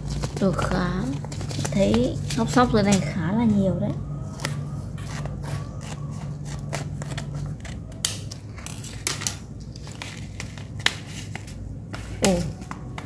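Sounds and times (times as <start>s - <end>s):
scissors snipping paper: 0.0s - 3.2s, 4.2s - 13.0s.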